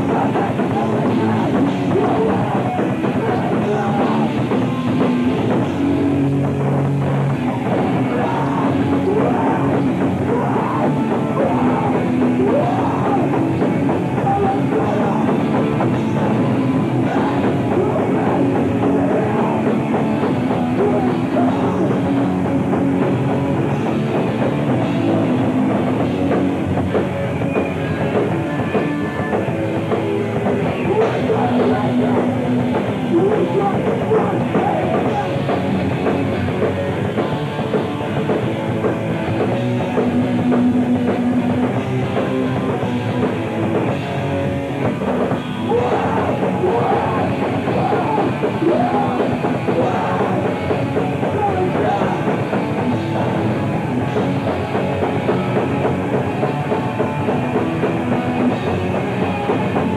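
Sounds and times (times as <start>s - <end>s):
drum kit: 0.0s - 59.9s
live punk rock band: 0.0s - 59.9s.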